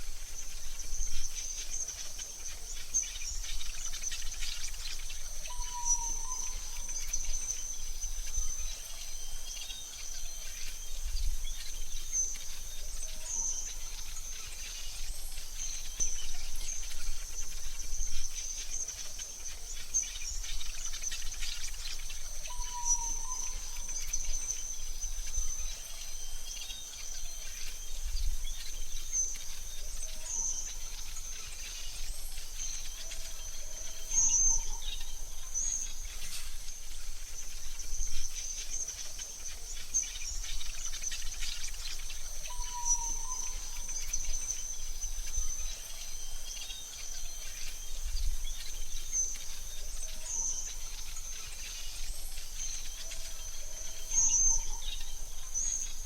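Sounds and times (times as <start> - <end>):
faint hiss: 0.0 - 56.0.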